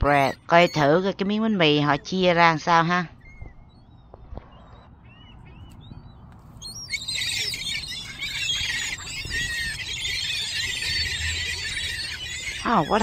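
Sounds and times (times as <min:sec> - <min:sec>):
gulls squealing and squawking: 0:00.0 - 0:13.0.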